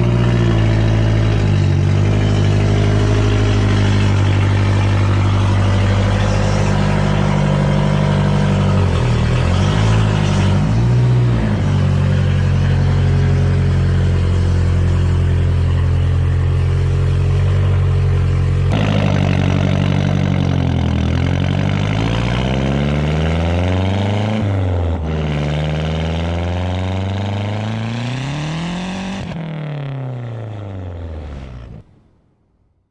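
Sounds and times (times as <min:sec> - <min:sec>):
car engine idling and revving: 0:00.0 - 0:32.4.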